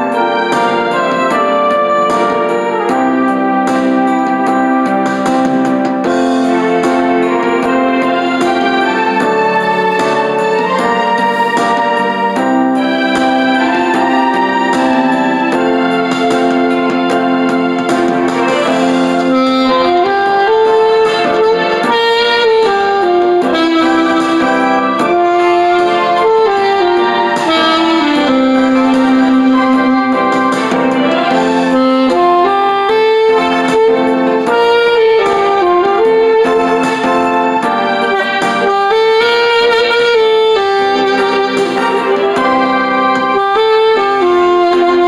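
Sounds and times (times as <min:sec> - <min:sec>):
keyboard backing track: 0:00.0 - 0:45.0
saxophone melody: 0:00.0 - 0:45.0.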